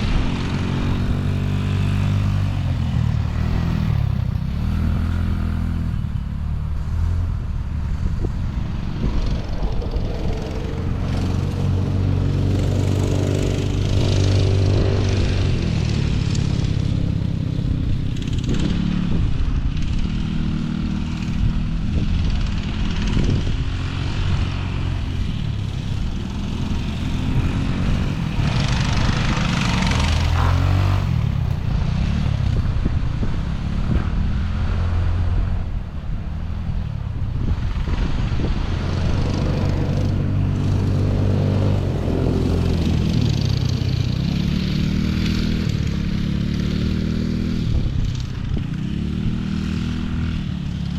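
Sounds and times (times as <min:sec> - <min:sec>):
dirt bike engine revving: 0:00.0 - 0:36.2, 0:37.0 - 0:50.9.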